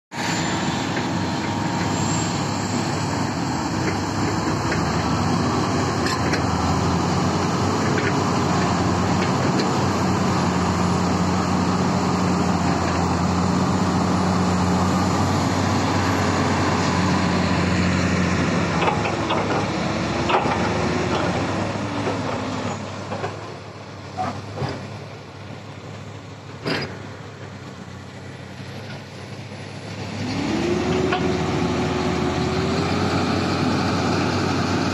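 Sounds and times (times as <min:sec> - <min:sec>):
quieter diesel machine running: 0:00.1 - 0:34.9
dump truck diesel engine running: 0:00.2 - 0:34.9.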